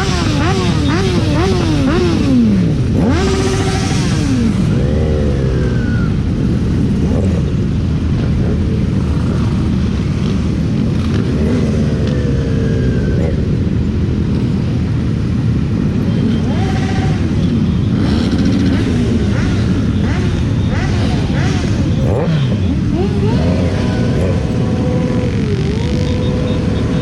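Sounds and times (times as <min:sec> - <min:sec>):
motorcycle engine: 0:00.0 - 0:27.0.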